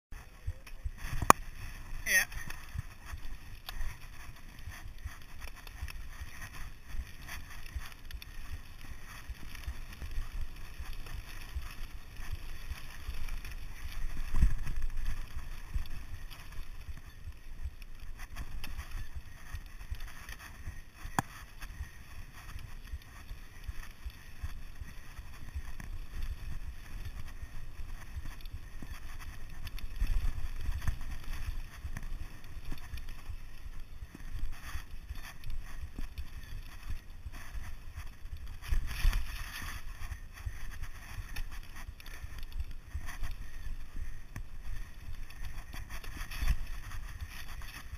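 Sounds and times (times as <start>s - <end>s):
bike tyre and wind rumble: 0.1s - 47.9s
bike rattling over stones: 0.2s - 47.9s.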